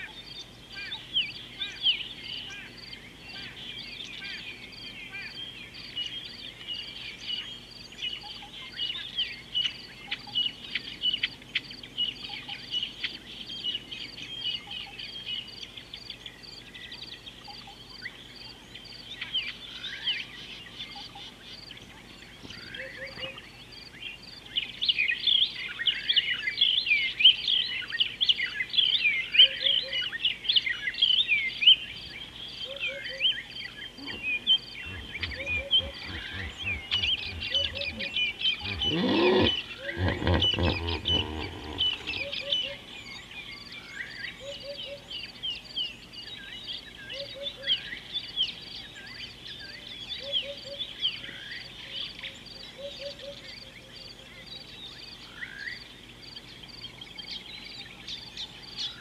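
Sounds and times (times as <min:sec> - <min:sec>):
wild birds chirping: 0:00.0 - 0:59.0.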